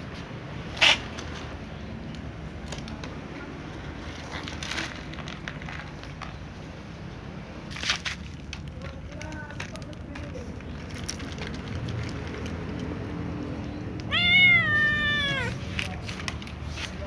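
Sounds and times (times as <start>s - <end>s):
cat crunching dry kibble: 0.7s - 6.6s, 7.7s - 13.3s, 13.9s - 17.0s.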